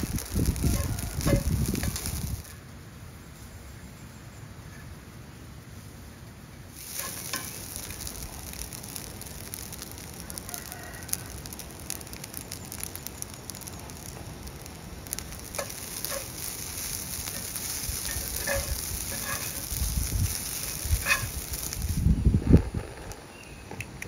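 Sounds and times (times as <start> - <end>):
crackles and clicks: 0.0 - 2.6, 6.7 - 24.0
steady hiss: 0.0 - 24.0.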